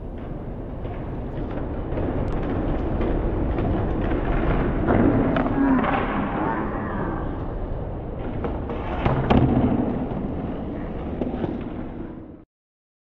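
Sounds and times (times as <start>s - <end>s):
skateboard clacks: 0.0s - 12.4s
skateboard rolling on concrete: 0.0s - 12.4s.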